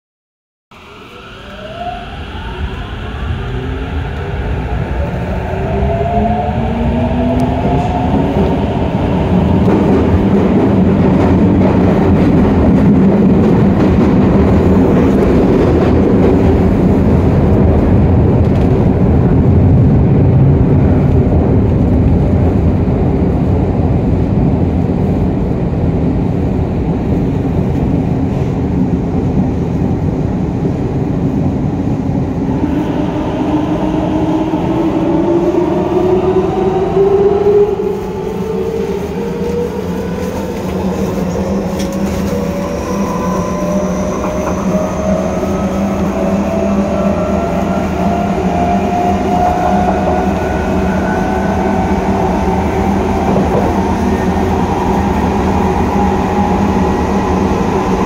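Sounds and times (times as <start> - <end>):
wheels rumbling on rail: 0.8 - 58.0.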